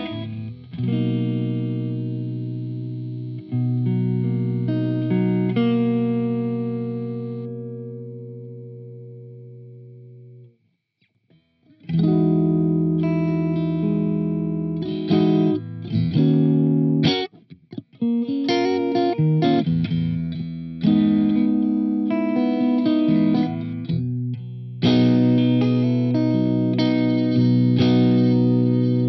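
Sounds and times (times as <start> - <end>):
clean electric guitar: 0.0 - 10.6, 11.3 - 29.0.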